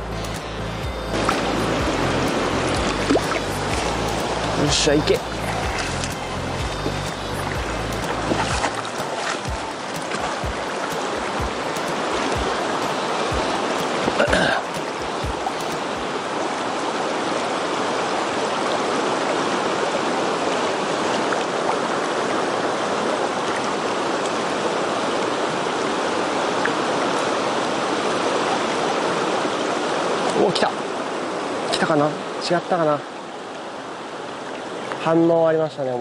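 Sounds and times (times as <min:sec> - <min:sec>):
river rapids rushing over rocks: 0:00.0 - 0:35.3.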